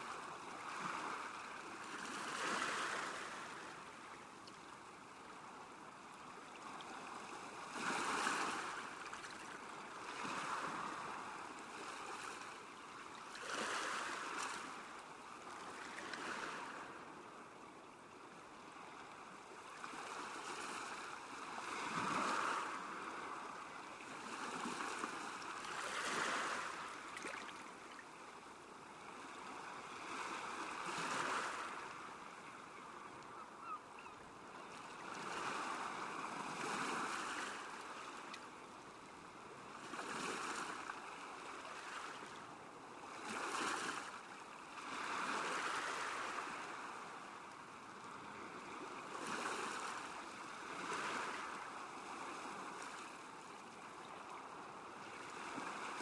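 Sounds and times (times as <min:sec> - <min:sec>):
small waves washing onto shore: 0:00.0 - 0:17.4, 0:18.6 - 0:56.0.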